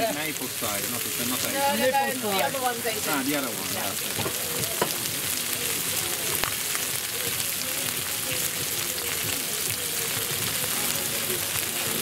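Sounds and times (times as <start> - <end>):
chicken sizzling on griddle: 0.0 - 12.0.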